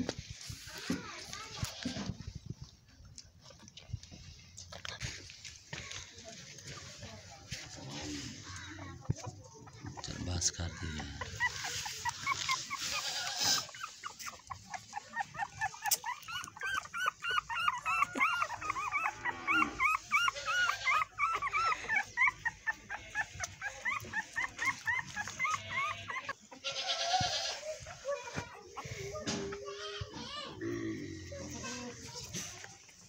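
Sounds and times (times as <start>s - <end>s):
puppies whimpering and squealing: 5.3s - 33.0s.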